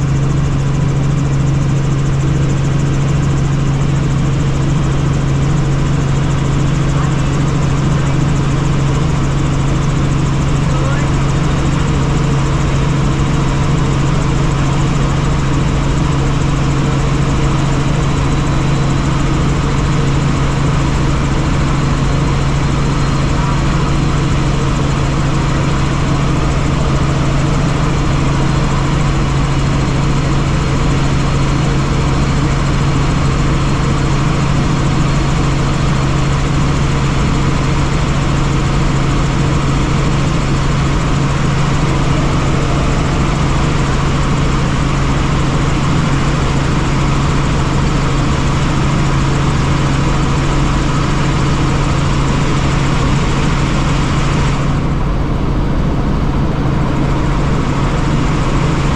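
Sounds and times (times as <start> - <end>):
helicopter rotor and engine: 0.0 - 58.9.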